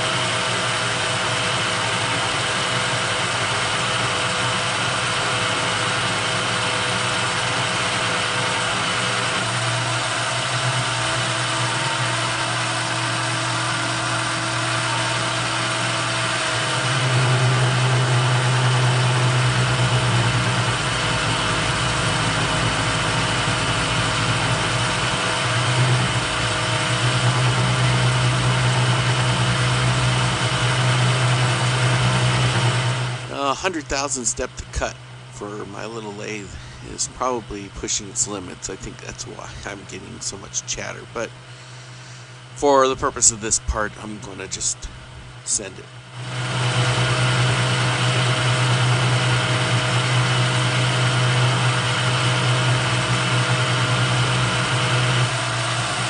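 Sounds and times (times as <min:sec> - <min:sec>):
lathe tool chatter drone: 0:00.0 - 0:56.0
metal lathe humming: 0:00.0 - 0:56.0.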